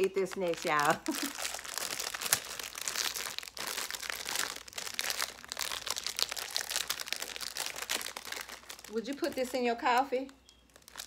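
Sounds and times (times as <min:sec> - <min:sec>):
candy wrapper crinkling: 0:00.0 - 0:11.0.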